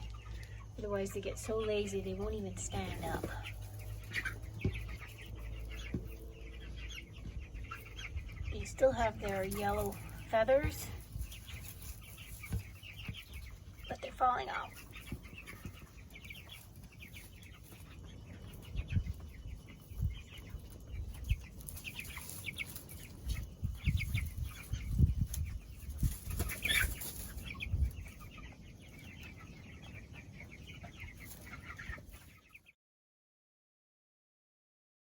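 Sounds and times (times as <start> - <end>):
chicks peeping: 0.0 - 32.8.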